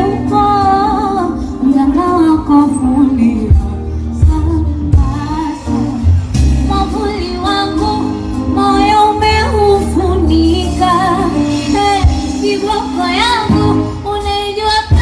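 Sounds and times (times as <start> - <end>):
woman singing pop music: 0.0 - 15.0.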